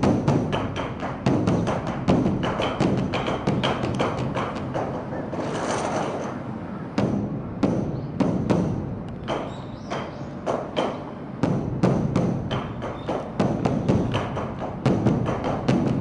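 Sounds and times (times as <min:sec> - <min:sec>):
large drum struck with drumsticks: 0:00.0 - 0:05.1, 0:07.0 - 0:16.0.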